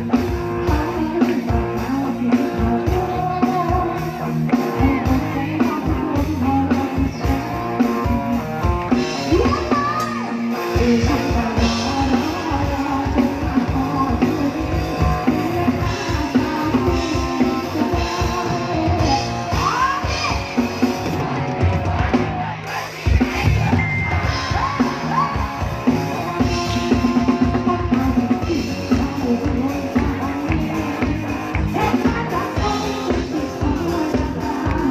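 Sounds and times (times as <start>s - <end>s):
person singing: 0.0s - 21.2s, 21.9s - 34.9s
bass and guitar: 0.0s - 34.9s
drum kit beat: 0.0s - 34.9s.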